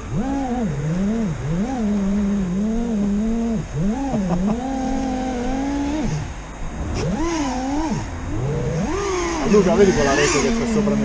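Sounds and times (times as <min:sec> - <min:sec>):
drone motors and propellers whining: 0:00.0 - 0:11.0.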